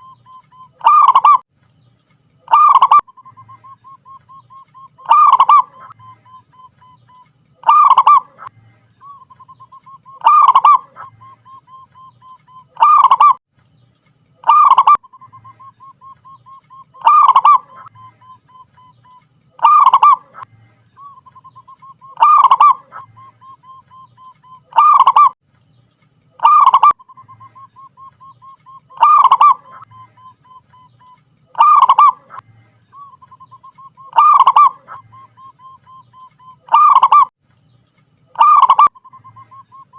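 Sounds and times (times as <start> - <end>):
dove cooing: 0.0 - 1.4, 2.5 - 13.4, 14.4 - 25.4, 26.4 - 32.4, 33.0 - 37.3, 38.4 - 39.9.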